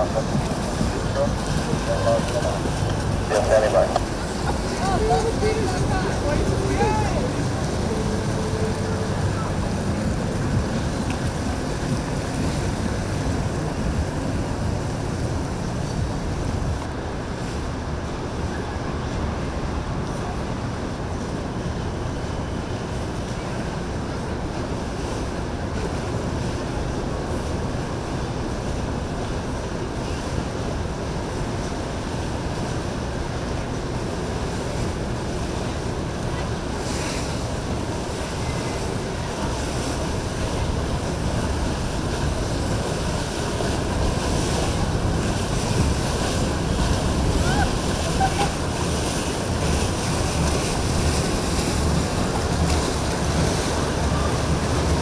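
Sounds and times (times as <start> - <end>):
boat motors running: 0.0 - 55.0
waves and surf: 0.0 - 55.0
wind buffeting microphone: 0.0 - 55.0.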